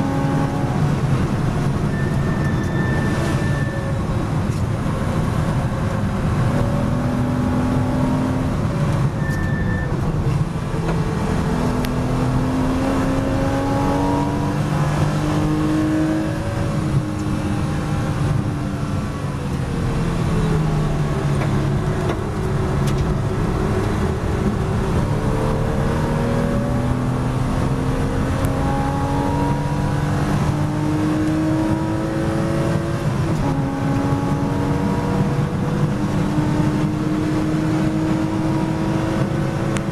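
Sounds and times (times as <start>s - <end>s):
race car engine from cockpit: 0.0s - 39.9s.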